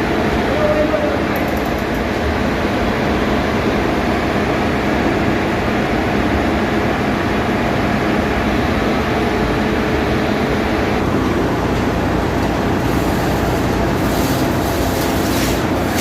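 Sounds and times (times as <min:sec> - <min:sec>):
ship engine room machinery: 0:00.0 - 0:16.0.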